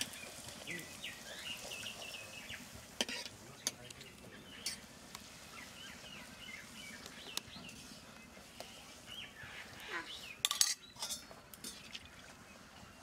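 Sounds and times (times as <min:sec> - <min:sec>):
birds chirping: 0:00.0 - 0:13.0
dough deep-frying in oil: 0:00.0 - 0:13.0.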